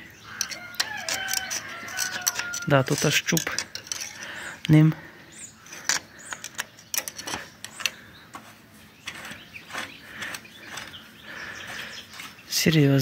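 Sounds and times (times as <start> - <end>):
dipstick scraping and rattling: 0.0 - 13.0.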